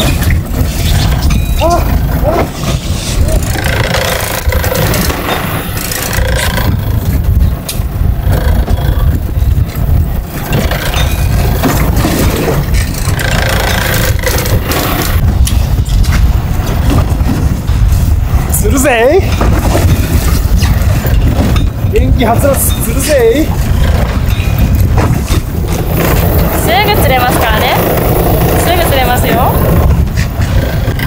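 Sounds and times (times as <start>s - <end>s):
boat engine rumbling: 0.0s - 31.0s
wind buffeting microphone: 0.0s - 31.0s.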